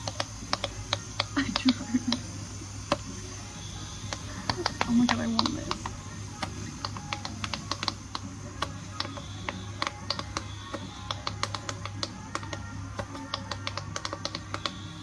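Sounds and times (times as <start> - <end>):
rapid clicking and tapping: 0.0 - 15.0
steady low hum: 0.0 - 15.0.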